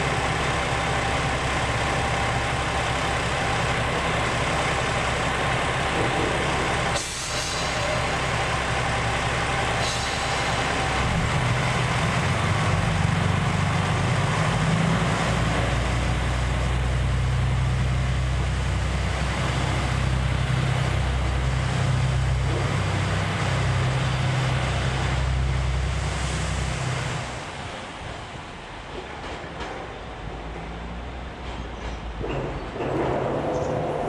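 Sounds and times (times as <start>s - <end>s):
diesel railcar engines droning: 0.0s - 34.0s.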